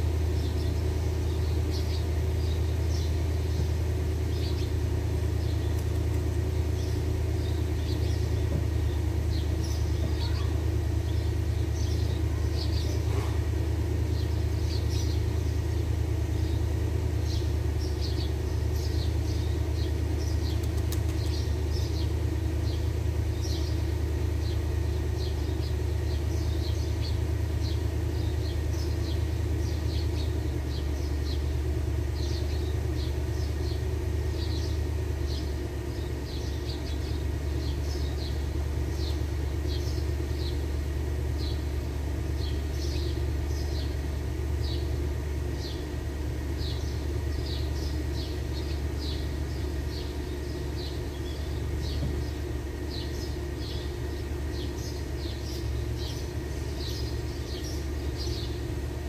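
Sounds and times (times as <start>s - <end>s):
low mechanical rumble: 0.0s - 59.0s.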